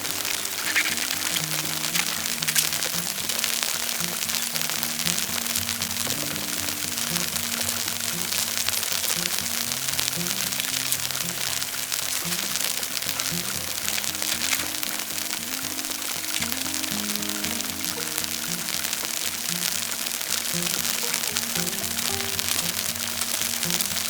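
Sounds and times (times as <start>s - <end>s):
fine crackling hiss: 0.0s - 24.0s
low held music notes: 0.0s - 24.0s.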